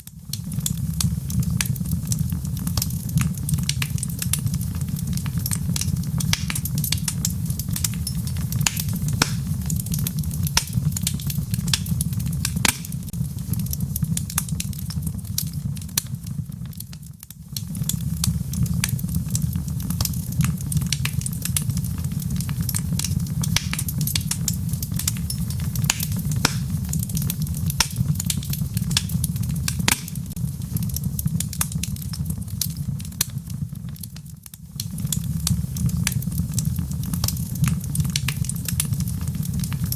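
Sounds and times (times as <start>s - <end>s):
crackles and pops from logs: 0.0s - 39.9s
low flame roar: 0.1s - 34.0s.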